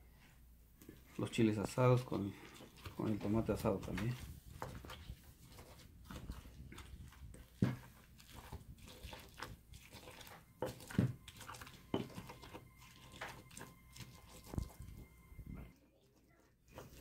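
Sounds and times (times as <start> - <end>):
pestle grinding and crunching: 2.0 - 15.7.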